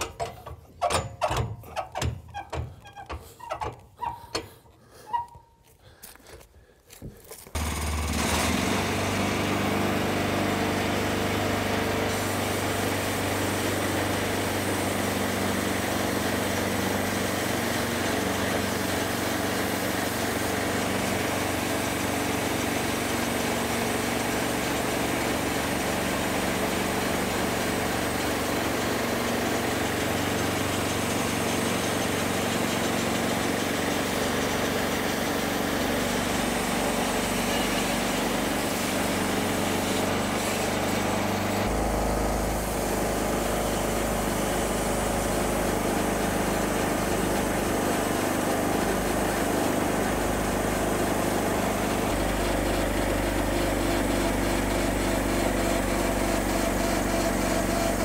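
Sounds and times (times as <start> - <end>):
small gasoline engine running: 7.5 - 58.0
band saw cutting log: 7.6 - 58.0.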